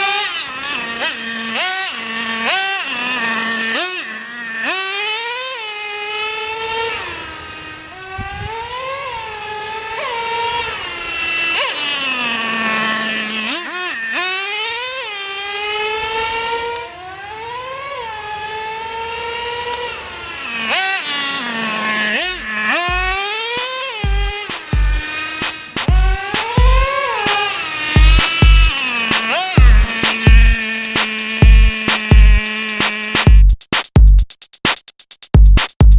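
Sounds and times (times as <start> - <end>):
nitro engine revving high: 0.0 - 33.4.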